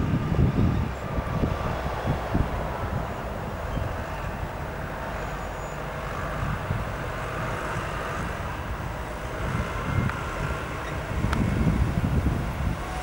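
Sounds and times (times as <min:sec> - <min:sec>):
turboprop engines running: 0:00.0 - 0:13.0
wind gusting on microphone: 0:00.0 - 0:13.0.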